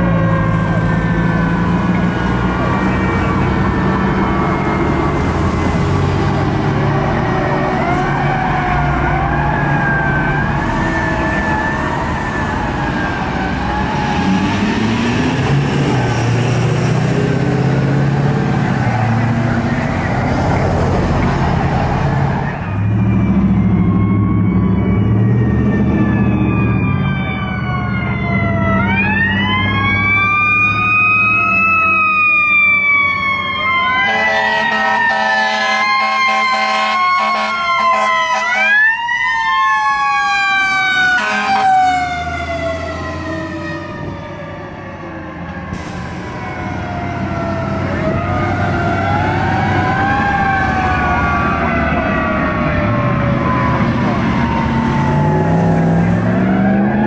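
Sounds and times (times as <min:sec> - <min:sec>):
truck engines rumbling: 0:00.0 - 0:57.0
wailing sirens: 0:00.0 - 0:57.0.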